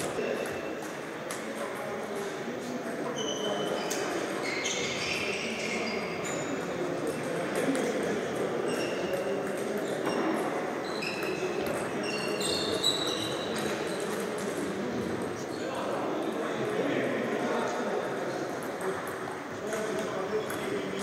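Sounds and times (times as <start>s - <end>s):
crowd chatter: 0.0s - 21.0s.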